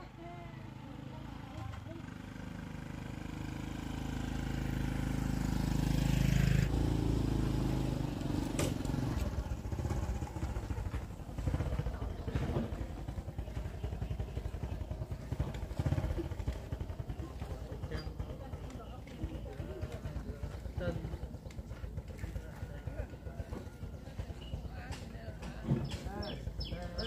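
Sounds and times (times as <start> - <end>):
small motorbike engine: 0.0 - 27.0.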